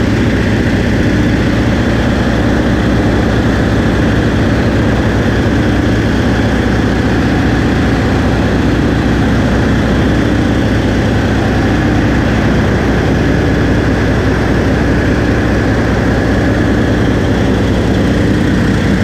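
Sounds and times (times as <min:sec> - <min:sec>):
marine diesel engine idling: 0:00.0 - 0:19.0.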